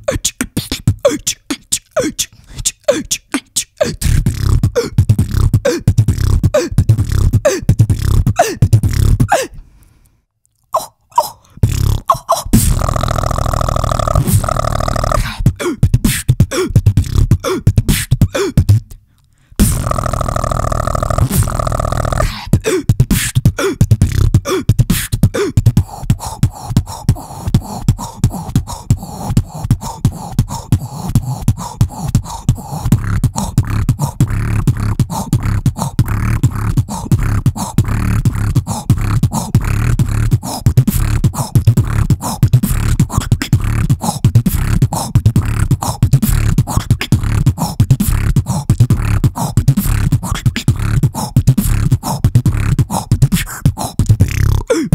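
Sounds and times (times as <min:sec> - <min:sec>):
person beatboxing into microphone: 0:00.0 - 0:09.8, 0:10.6 - 0:54.9.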